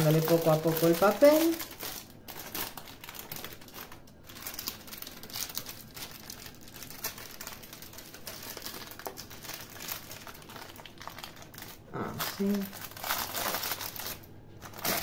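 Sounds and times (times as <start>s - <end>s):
parchment paper crinkling: 0.0s - 15.0s.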